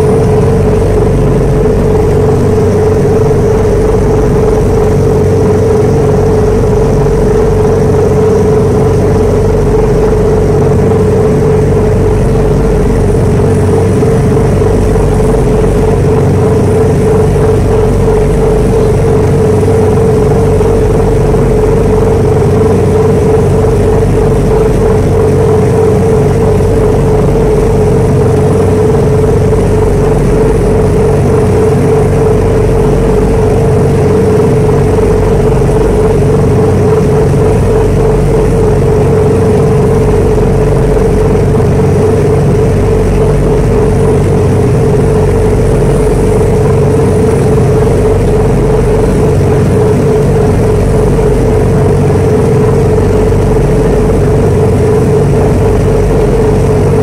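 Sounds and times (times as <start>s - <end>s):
ferry engine droning: 0.0s - 57.0s
rush of churning wake: 0.0s - 57.0s.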